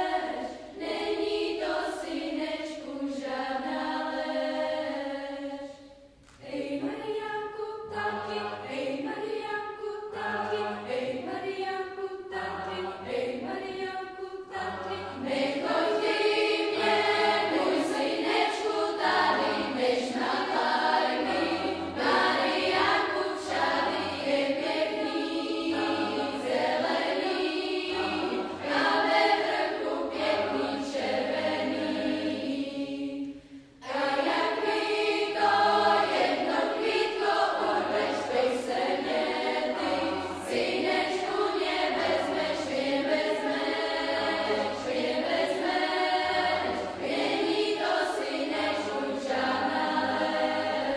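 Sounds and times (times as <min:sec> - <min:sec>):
youth choir singing in harmony: 0:00.0 - 0:50.9.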